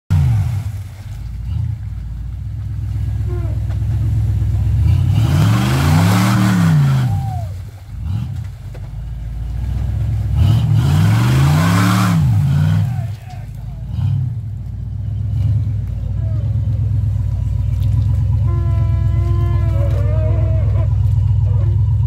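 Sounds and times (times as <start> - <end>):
buggy engine revving: 0.1 - 22.0
mud and water splashing: 0.1 - 22.0.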